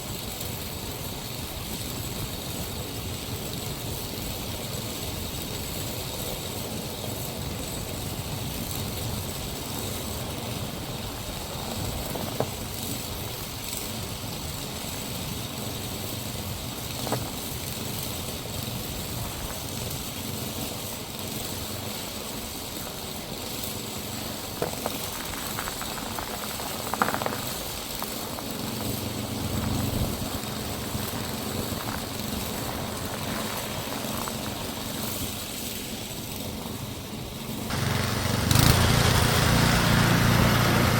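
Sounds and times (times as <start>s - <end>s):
small gasoline engine running: 0.0s - 40.9s.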